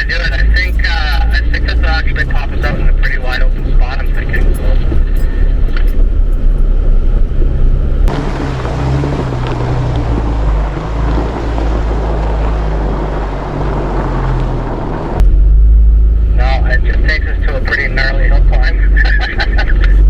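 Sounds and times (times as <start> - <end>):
broad rushing noise: 0.0 - 20.0
vehicle engine rumble: 0.0 - 20.0.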